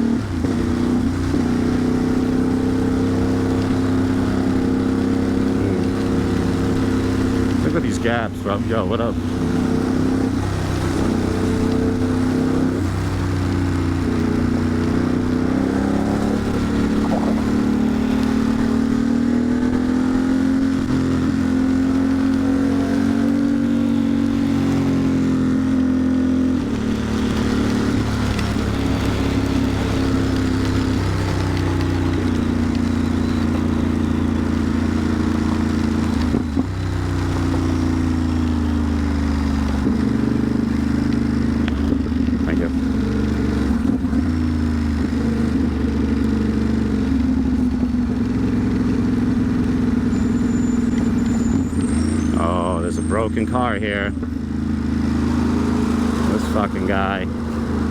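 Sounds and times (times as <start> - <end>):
motorcycle engine accelerating: 0.0 - 57.9
wind and road noise: 0.0 - 57.9.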